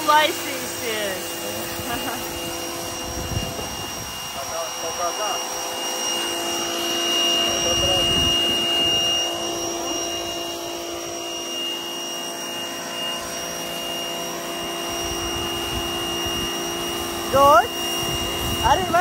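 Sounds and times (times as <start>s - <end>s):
pressure washer motor whining: 0.0s - 19.0s
water jet spraying on paving: 0.0s - 19.0s.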